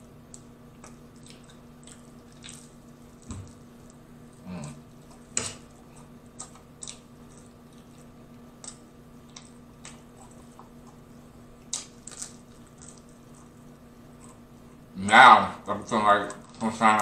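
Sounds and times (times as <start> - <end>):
chewing crunches: 0.0 - 14.9.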